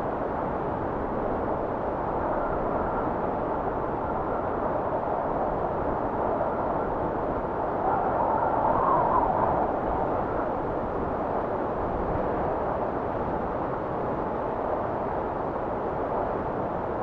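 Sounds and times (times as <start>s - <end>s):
blizzard wind rushing: 0.0s - 17.0s.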